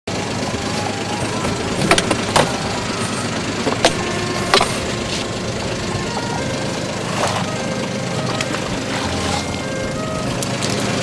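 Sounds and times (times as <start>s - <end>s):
boat engine idling: 0.1s - 11.0s
knocks and clicks of gear: 0.2s - 11.0s.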